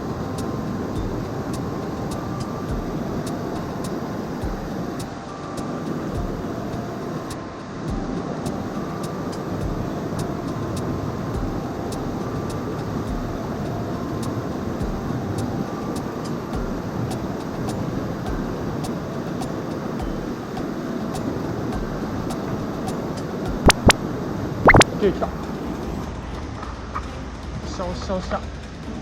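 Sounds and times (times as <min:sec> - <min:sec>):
stream rushing: 0:00.0 - 0:27.6.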